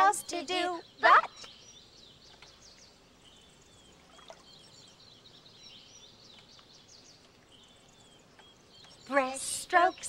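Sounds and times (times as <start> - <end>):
faint birds chirping: 0.0 - 10.0
quiet hiss: 0.0 - 10.0.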